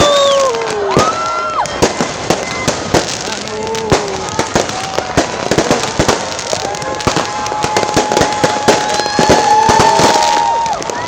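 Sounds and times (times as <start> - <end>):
fireworks and firecrackers banging: 0.0 - 11.0.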